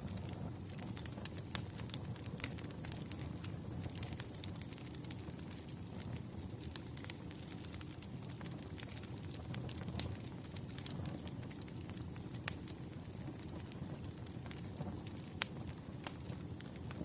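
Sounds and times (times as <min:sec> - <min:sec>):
fire crackles and pops: 0:00.0 - 0:17.0
firewood burning rumble: 0:00.0 - 0:17.0.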